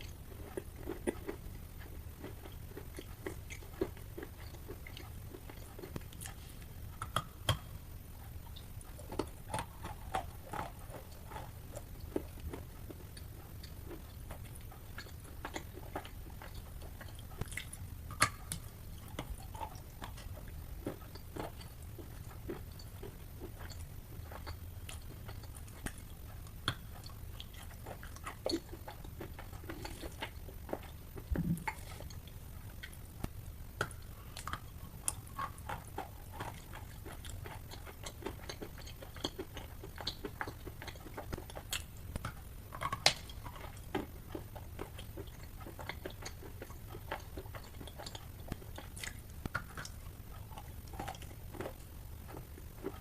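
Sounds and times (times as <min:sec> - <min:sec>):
person chewing wet chalk: 0:00.0 - 0:53.0.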